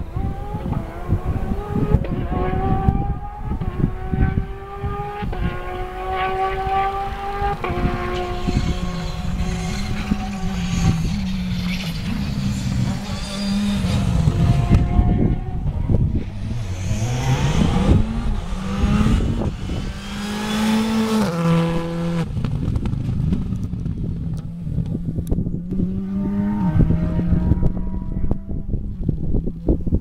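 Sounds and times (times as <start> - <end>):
rally car engine revving: 0.0 - 29.5.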